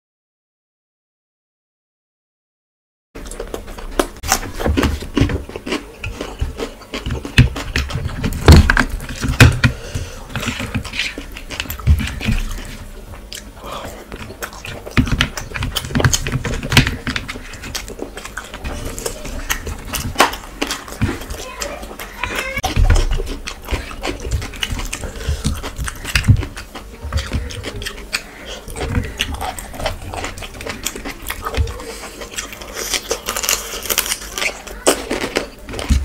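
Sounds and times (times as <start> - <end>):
crunching and chewing: 3.2 - 36.0
fingers mixing food on steel plate: 3.4 - 36.0.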